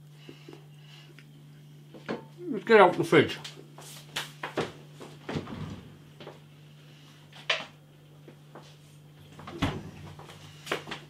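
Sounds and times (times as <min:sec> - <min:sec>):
refrigerator low hum: 0:00.0 - 0:11.0.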